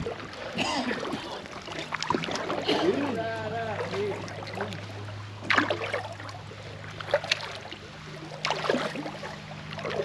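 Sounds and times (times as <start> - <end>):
paddle splashing in water: 0.0 - 10.0.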